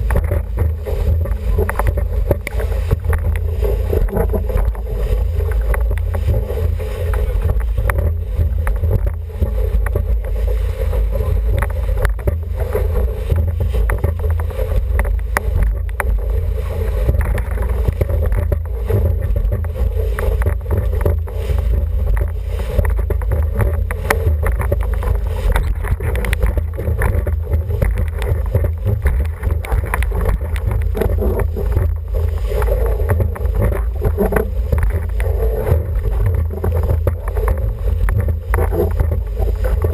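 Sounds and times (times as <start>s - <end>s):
water rushing along boat hull: 0.0s - 39.9s
wind buffeting microphone: 0.0s - 39.9s.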